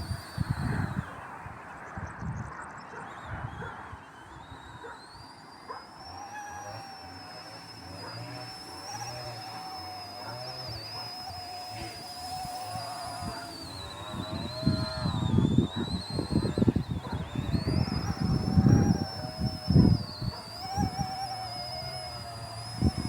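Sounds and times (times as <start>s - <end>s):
rc helicopter motor whine: 0.0s - 23.0s.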